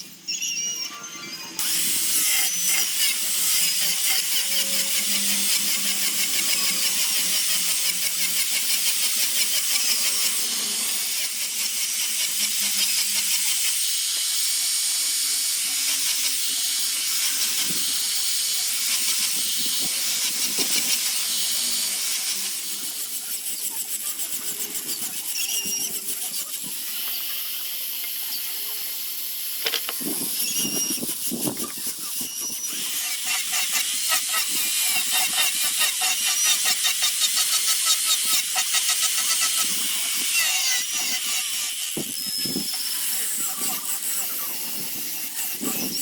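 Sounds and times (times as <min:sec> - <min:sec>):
power tool hiss on wood: 0:01.6 - 0:46.0.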